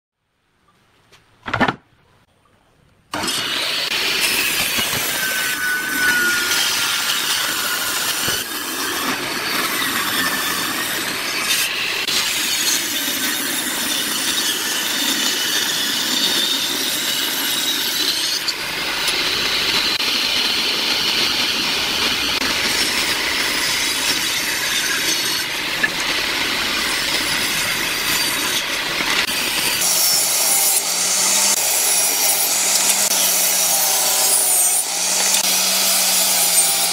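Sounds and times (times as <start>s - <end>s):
table saw ripping wood: 3.1s - 36.9s.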